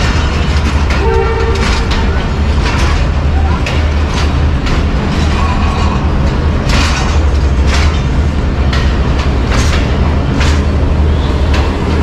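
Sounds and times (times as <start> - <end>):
train wheels clacking over rail joints: 0.0 - 12.0.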